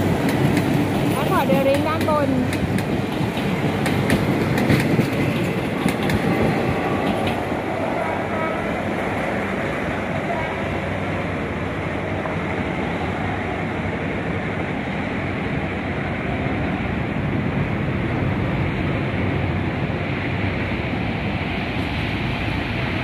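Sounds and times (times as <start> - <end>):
diesel train rumbling on track: 0.0 - 23.0
wind on microphone: 0.0 - 23.0.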